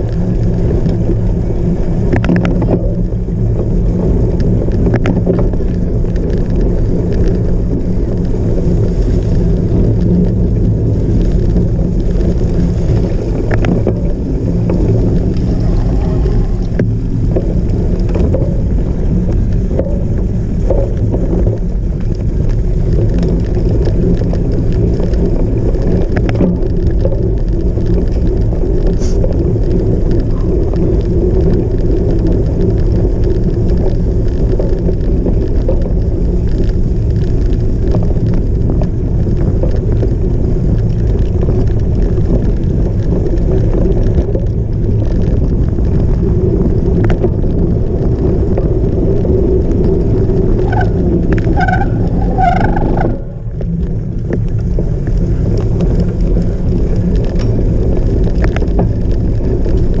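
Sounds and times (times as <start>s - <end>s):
wind rumble on microphone: 0.0s - 60.0s.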